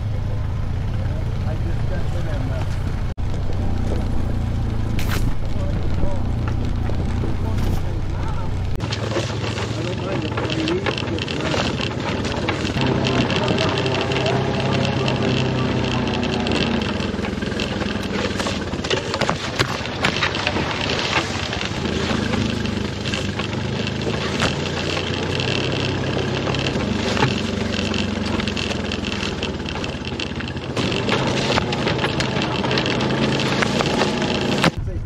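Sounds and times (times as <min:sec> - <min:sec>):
vehicle rattling and knocking: 0:00.0 - 0:34.9
off-road vehicle engine running: 0:00.0 - 0:35.0.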